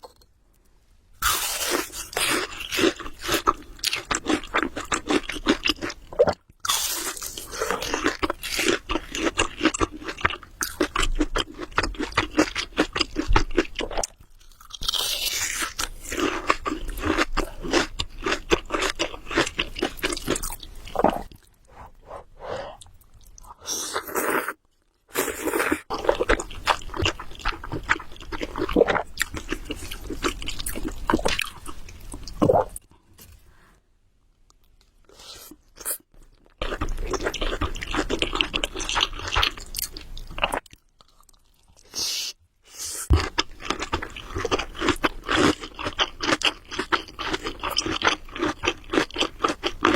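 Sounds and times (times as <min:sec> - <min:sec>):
wet chewing of noodles: 0:01.2 - 0:32.8, 0:35.1 - 0:42.2, 0:43.1 - 0:49.9.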